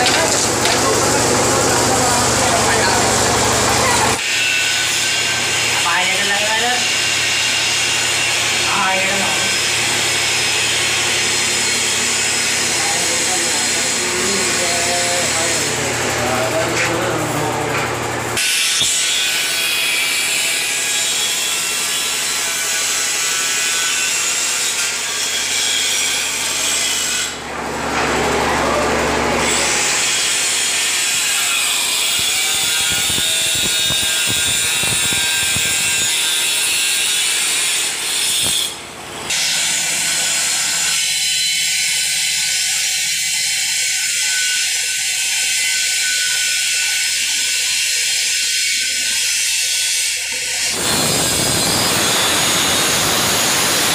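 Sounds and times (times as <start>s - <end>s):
electric tile cutter cutting tile: 0.0s - 53.9s.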